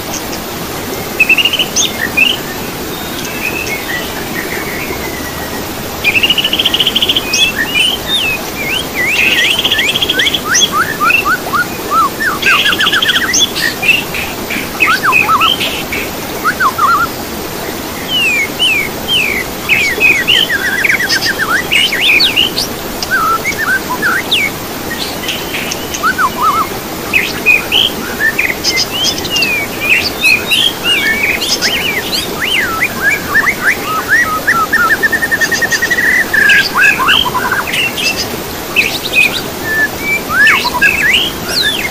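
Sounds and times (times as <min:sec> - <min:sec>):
songbird whistles and trills: 0:01.1 - 0:14.1, 0:14.7 - 0:17.2, 0:18.0 - 0:38.2, 0:38.8 - 0:41.9.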